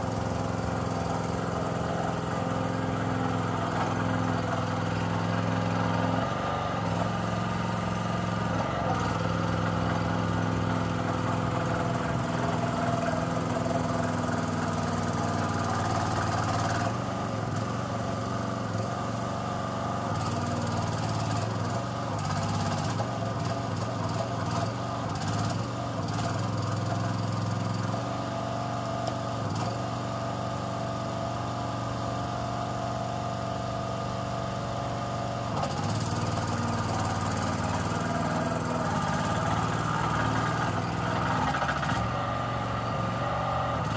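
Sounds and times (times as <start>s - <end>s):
mini dumper engine running: 0.0s - 43.9s.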